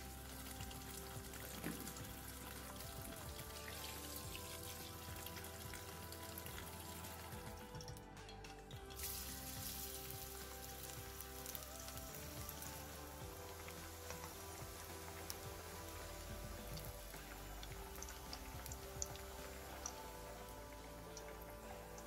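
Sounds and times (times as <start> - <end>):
vegetables sizzling in hot oil: 0.0 - 7.8, 8.9 - 22.0
tap water running: 0.0 - 8.0, 8.7 - 22.0
background music: 0.0 - 22.0.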